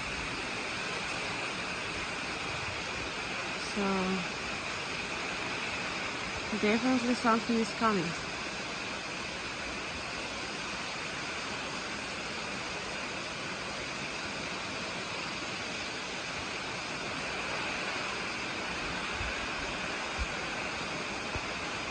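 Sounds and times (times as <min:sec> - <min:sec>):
wind and rain hiss: 0:00.0 - 0:21.9.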